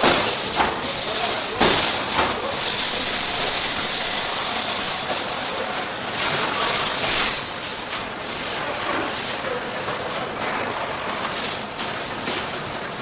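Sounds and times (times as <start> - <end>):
welding machine hissing: 0.0 - 13.0.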